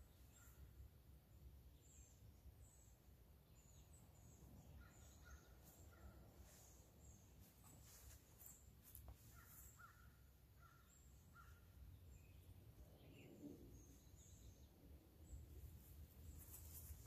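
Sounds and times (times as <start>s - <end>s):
distant bird calls: 0.0s - 15.8s.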